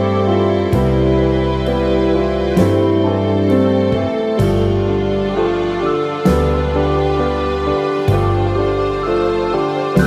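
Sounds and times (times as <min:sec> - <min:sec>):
slow tender background music: 0:00.0 - 0:10.0.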